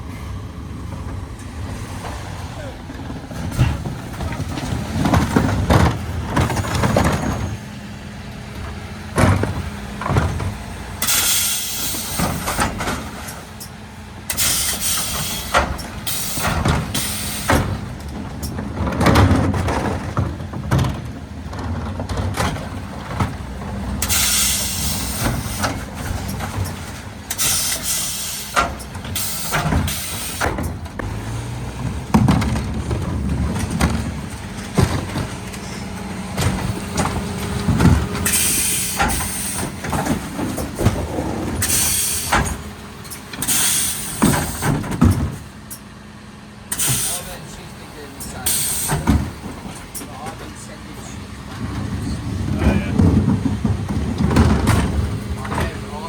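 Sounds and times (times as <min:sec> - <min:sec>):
truck engine running: 0:00.0 - 0:56.0
bins knocking and clattering: 0:00.7 - 0:07.7, 0:08.5 - 0:46.0, 0:46.7 - 0:56.0.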